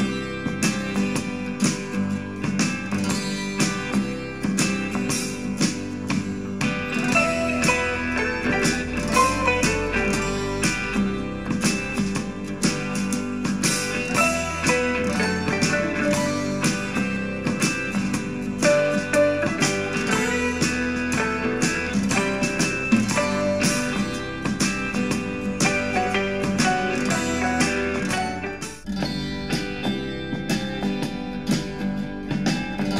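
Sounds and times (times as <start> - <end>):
country-folk guitar music: 0.0 - 32.9.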